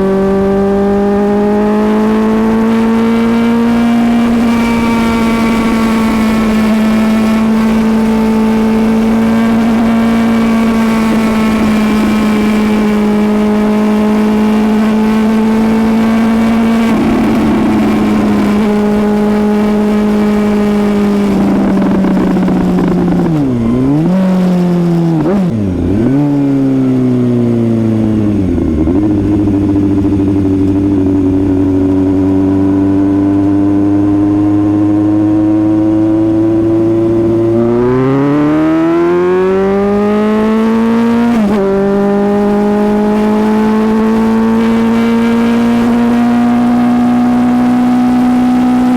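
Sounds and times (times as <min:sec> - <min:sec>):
motorcycle engine at speed: 0:00.0 - 0:48.9.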